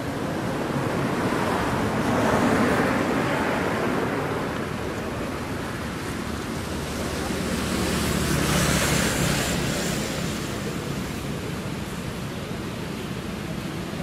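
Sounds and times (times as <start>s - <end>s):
wind rushing on microphone: 0.0s - 14.0s.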